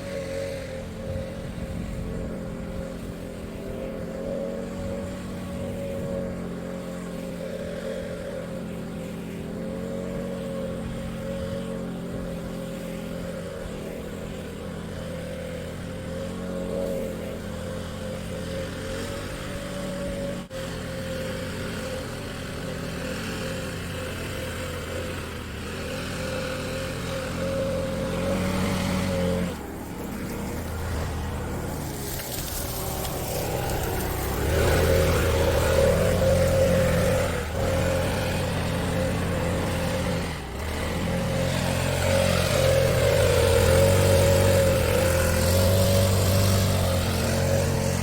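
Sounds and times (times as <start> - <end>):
leaf blower engine running: 0.0 - 48.0.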